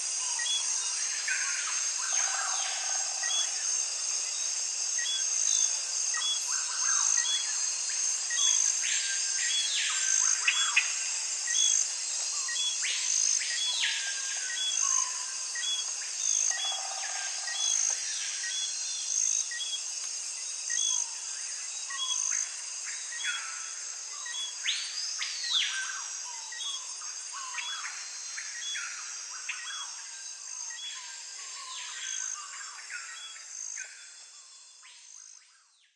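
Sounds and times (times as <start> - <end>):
insect chirp: 0.0 - 35.9
insect chorus drone: 0.0 - 35.9.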